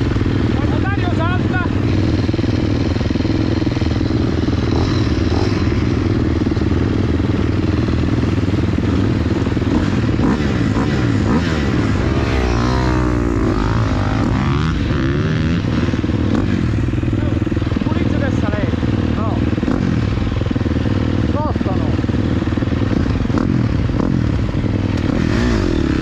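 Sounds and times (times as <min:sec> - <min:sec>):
motocross engines running: 0:00.0 - 0:26.0.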